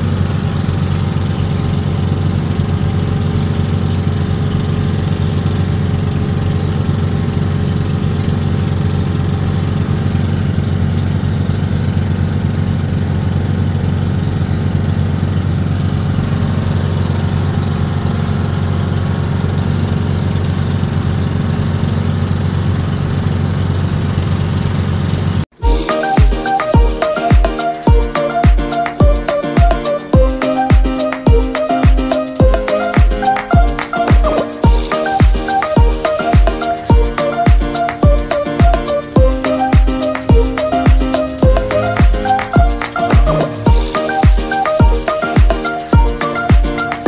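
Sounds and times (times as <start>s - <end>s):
boat engine droning: 0.0s - 47.0s.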